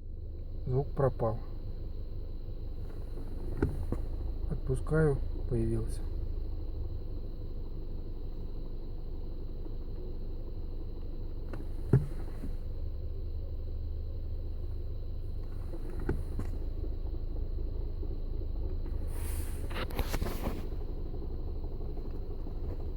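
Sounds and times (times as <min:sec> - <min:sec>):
car engine idling: 0:00.0 - 0:22.9
clutch rattle: 0:00.1 - 0:22.9.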